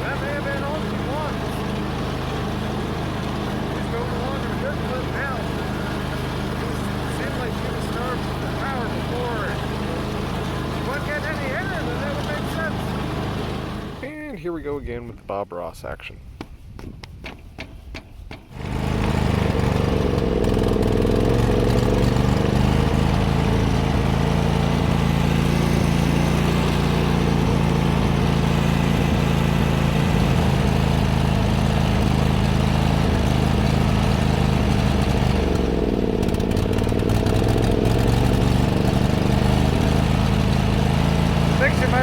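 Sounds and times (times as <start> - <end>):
lawn tractor engine under load: 0.0 - 14.6, 17.7 - 42.0.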